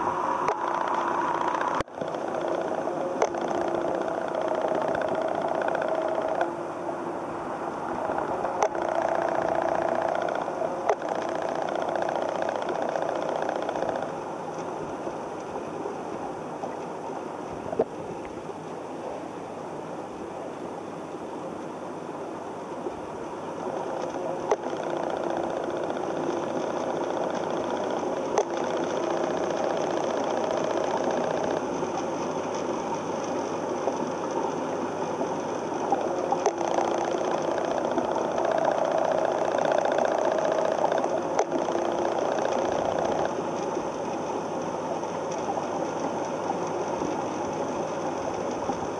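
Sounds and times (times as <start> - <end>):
mechanical motor hum: 0.0 - 18.6, 22.9 - 48.9
faint clicks: 0.4 - 6.6, 8.0 - 18.8, 23.6 - 48.9.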